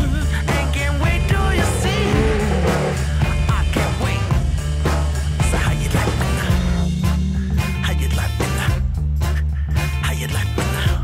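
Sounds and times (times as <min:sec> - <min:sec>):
held bass line: 0:00.0 - 0:10.0.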